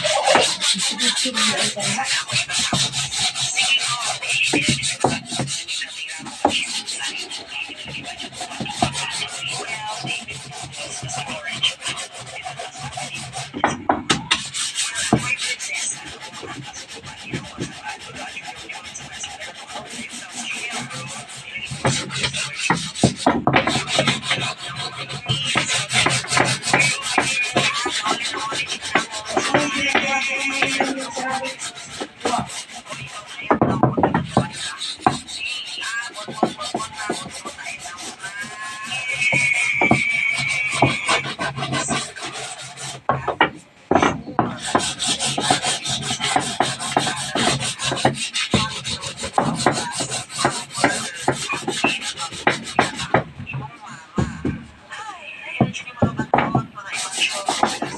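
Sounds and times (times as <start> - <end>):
hand tool rasping wood: 0.0 - 54.6, 55.6 - 57.9.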